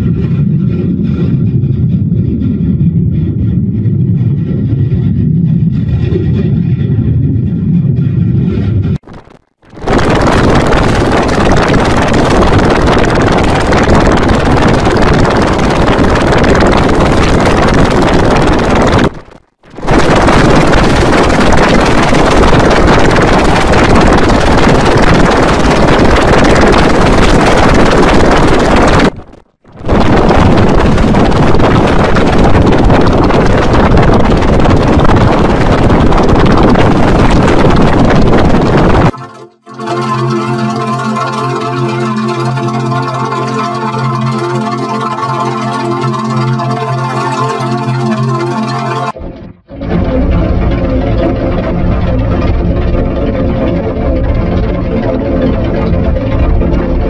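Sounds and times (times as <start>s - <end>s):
loud harsh noise: 0.0s - 57.0s.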